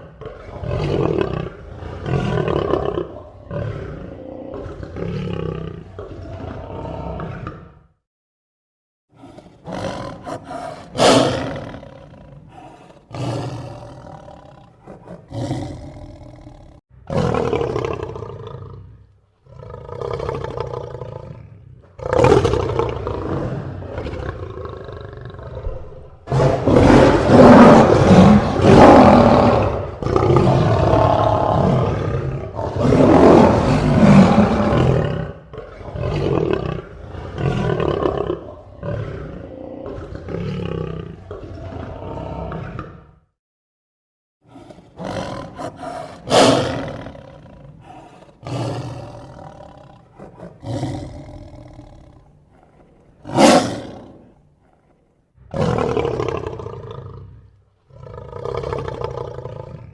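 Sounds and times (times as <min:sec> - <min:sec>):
lions roaring: 0:00.0 - 0:07.8, 0:09.2 - 0:43.1, 0:44.5 - 0:59.9.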